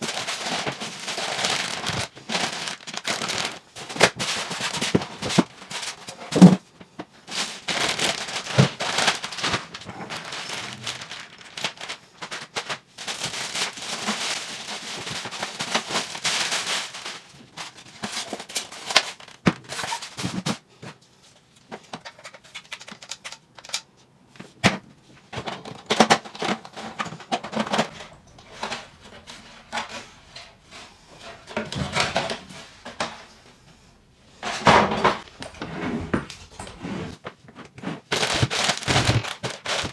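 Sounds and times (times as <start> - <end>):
plastic packaging crinkling: 0.0 - 6.5, 7.3 - 20.5, 25.4 - 36.9, 38.0 - 39.9.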